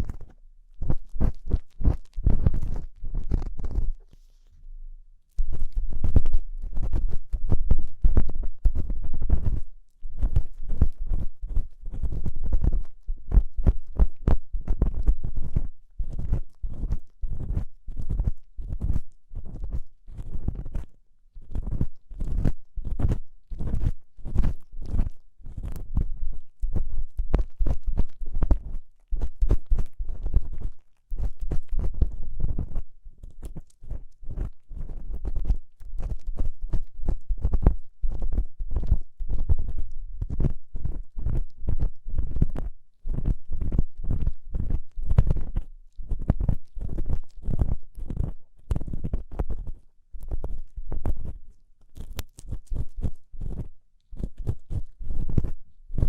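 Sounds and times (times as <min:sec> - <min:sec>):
ear-cleaning tool scraping microphone: 0:00.0 - 0:56.0.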